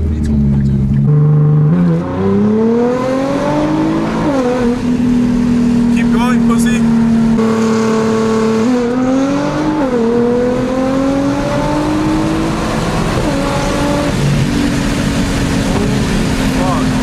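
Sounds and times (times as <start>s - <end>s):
car engine under full throttle: 0.0s - 17.0s.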